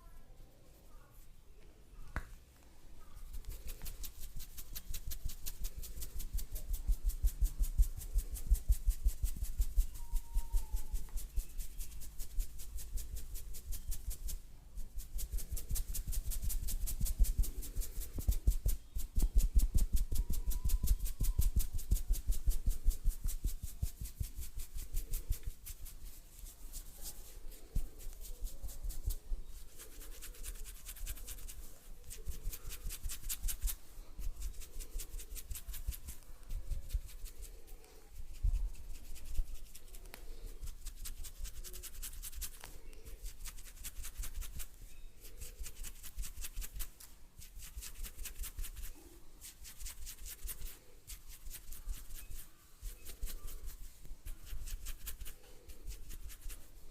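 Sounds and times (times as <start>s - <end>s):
rapid scratching and rubbing: 3.0s - 56.9s.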